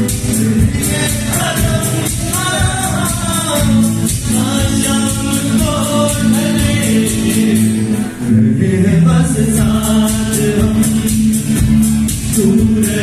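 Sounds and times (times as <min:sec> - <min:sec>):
live band playing: 0:00.0 - 0:08.4, 0:09.1 - 0:13.0
person singing: 0:00.0 - 0:13.0.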